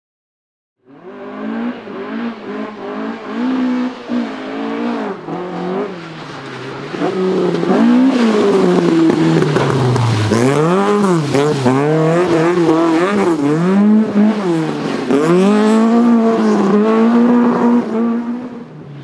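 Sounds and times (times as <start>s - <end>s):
rally car engine revving: 0.8s - 19.0s.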